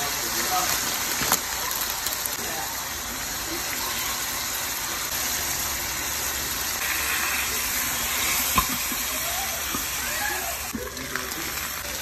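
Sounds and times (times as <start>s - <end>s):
meat sizzling in a wok: 0.0s - 12.0s.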